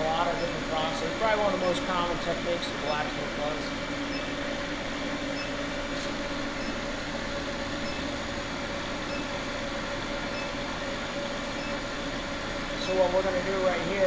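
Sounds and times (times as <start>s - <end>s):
blower whirring: 0.0s - 14.0s.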